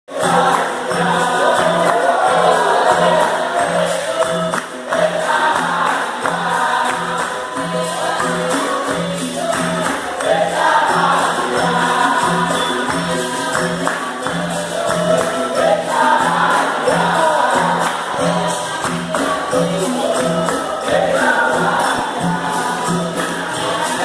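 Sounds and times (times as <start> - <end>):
berimbau: 0.1 - 24.0
call and response singing: 0.1 - 24.0
jingling tambourine: 0.1 - 24.0
percussion beat: 0.1 - 24.0.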